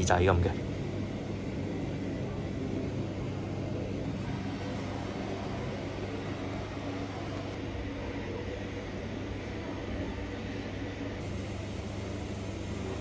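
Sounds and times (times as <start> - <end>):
low machinery hum with hiss: 0.0 - 13.0.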